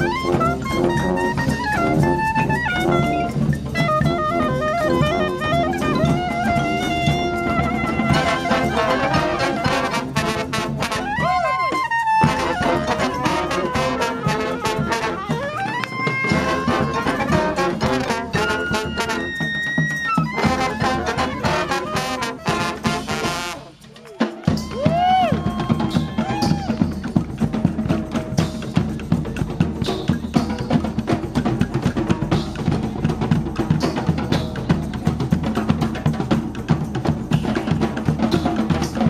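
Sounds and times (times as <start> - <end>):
brass band playing: 0.0 - 39.0
drums: 0.0 - 39.0.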